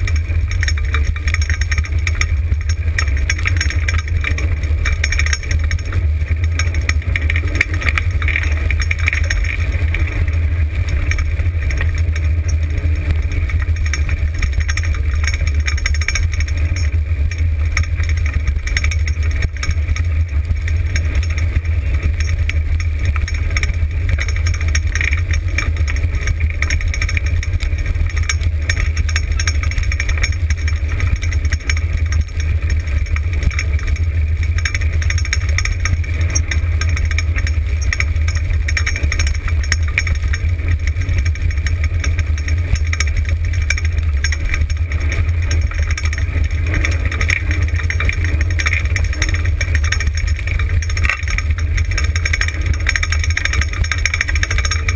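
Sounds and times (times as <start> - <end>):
wheels rumbling on gravel: 0.0 - 54.9.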